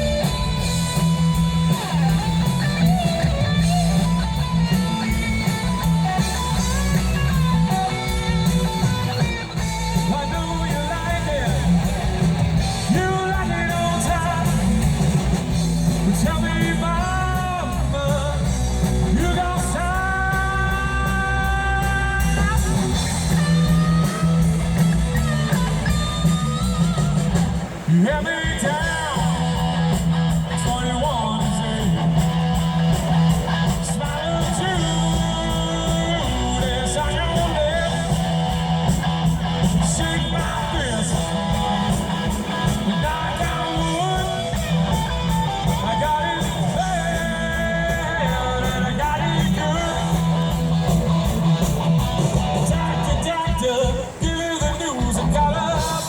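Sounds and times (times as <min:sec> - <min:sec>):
person singing: 0:00.0 - 0:11.9, 0:12.6 - 0:15.0, 0:15.9 - 0:32.7, 0:33.3 - 0:56.0
live rock band playing: 0:00.0 - 0:56.0.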